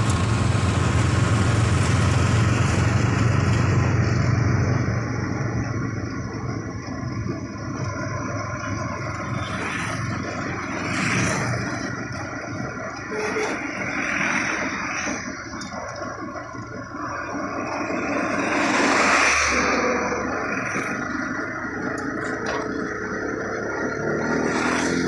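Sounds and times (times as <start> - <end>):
road and wind noise: 0.0 - 25.0
vehicle engine drone: 0.0 - 25.0.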